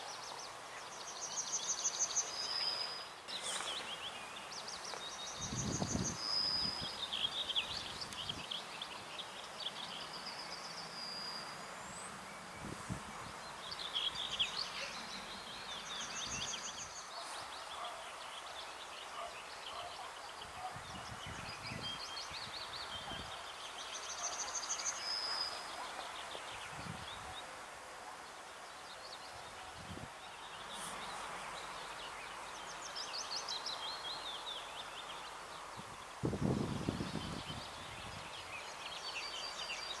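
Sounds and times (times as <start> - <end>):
songbirds chirping and trilling: 0.0 - 40.0
steady outdoor hiss: 0.0 - 40.0.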